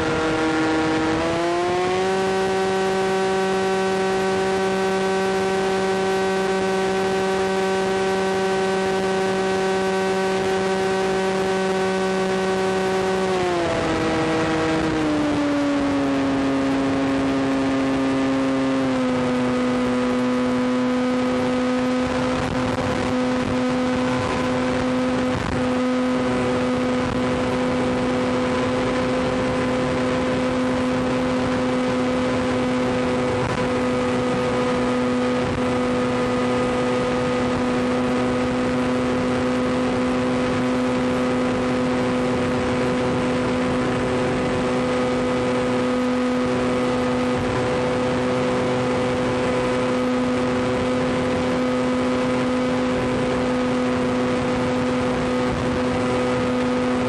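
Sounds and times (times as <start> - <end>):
electric motor and propeller whine: 0.0 - 57.0
wind rush: 10.3 - 57.0.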